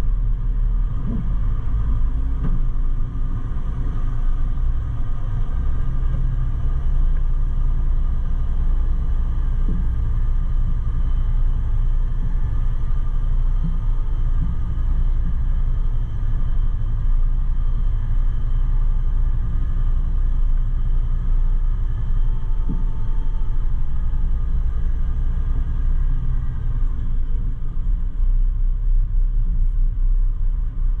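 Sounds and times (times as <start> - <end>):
truck engine and road rumble: 0.0 - 31.0.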